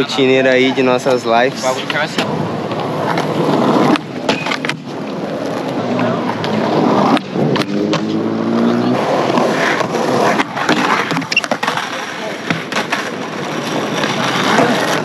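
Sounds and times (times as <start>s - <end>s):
skateboard wheels rolling on concrete: 0.0s - 15.0s
skateboard clacking: 0.9s - 8.1s, 8.9s - 15.0s.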